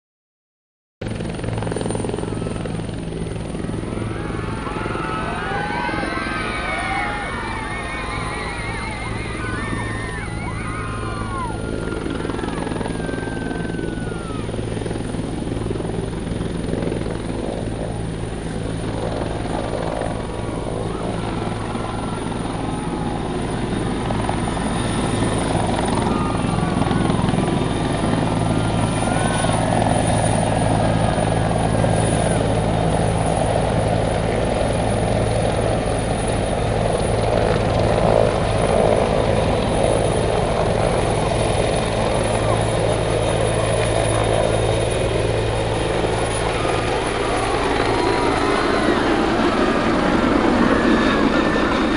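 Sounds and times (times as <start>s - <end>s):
helicopter drone: 1.0s - 51.9s.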